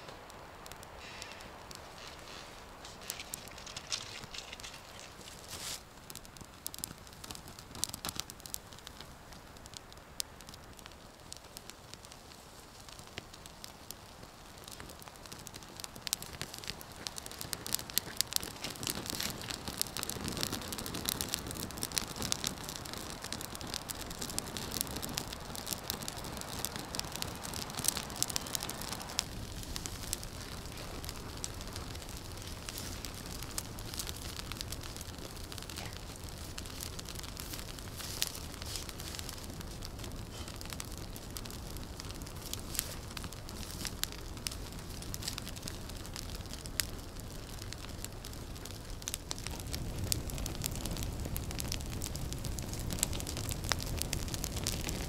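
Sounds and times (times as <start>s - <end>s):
steady hiss: 0.0s - 55.0s
wood fire crackling and popping: 0.0s - 55.0s.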